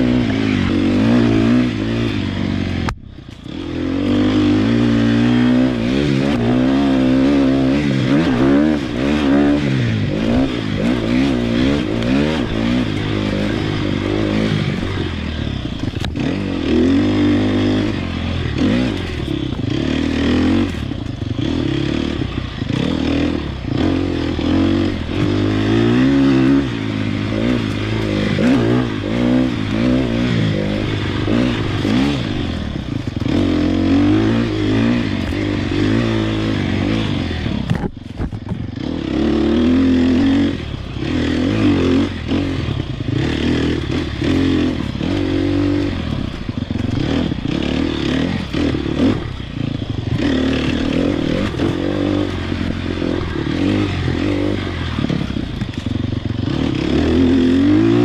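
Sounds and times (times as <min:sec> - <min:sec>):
clattering from motorcycle: 0:00.0 - 0:58.0
motorcycle engine revving: 0:00.0 - 0:58.0.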